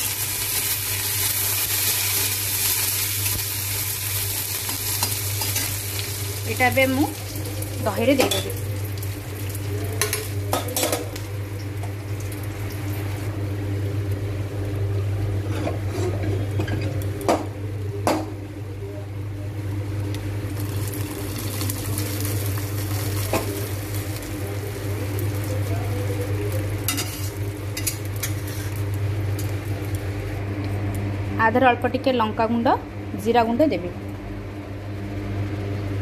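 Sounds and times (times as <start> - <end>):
oil sizzling: 0.0 - 17.8, 19.8 - 31.2
steady low hum: 0.0 - 36.0.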